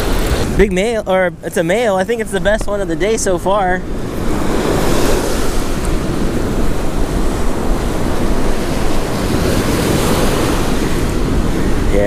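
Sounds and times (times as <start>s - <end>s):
surf washing on beach: 0.0s - 12.0s
wind buffeting microphone: 0.0s - 12.0s.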